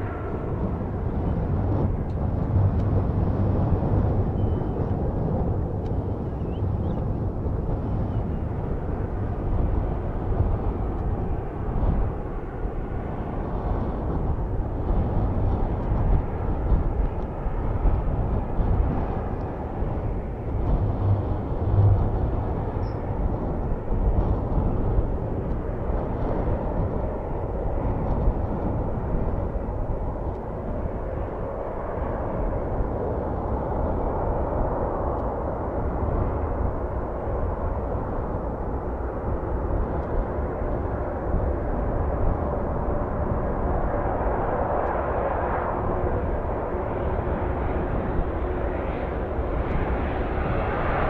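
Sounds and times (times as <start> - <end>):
distant jet airliner landing: 0.0 - 51.0
wind rumbling on microphone: 0.0 - 51.0.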